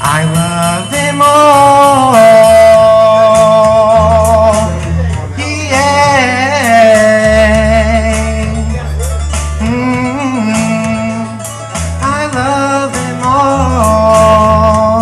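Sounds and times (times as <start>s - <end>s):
man singing with vibrato: 0.0s - 15.0s
sustained low bass notes: 0.0s - 15.0s.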